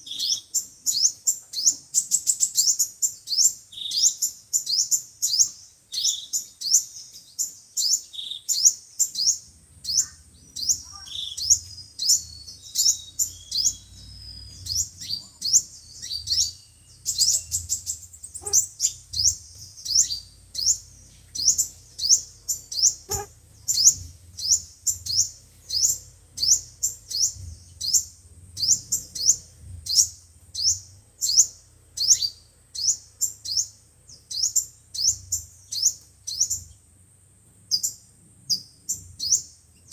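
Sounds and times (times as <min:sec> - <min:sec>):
sunbird chirps: 0:00.0 - 0:39.9.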